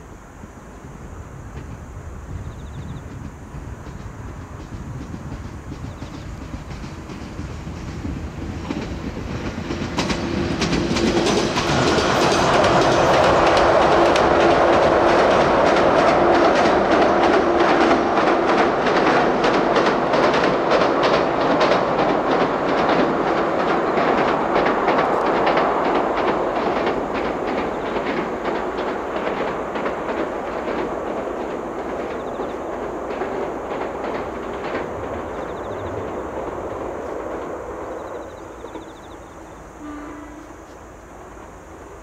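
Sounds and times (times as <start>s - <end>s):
electric train passing: 0.0s - 42.0s
train wheels clicking over rail joints: 0.9s - 42.0s.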